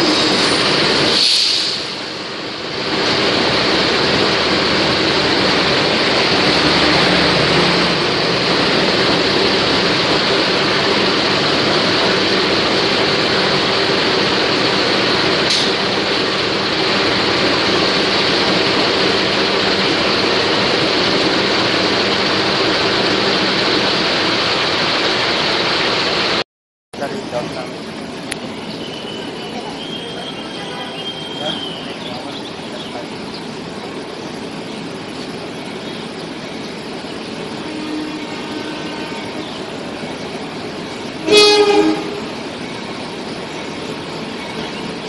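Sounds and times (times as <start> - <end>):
train coaches running on rails: 0.0 - 26.4, 27.0 - 45.0.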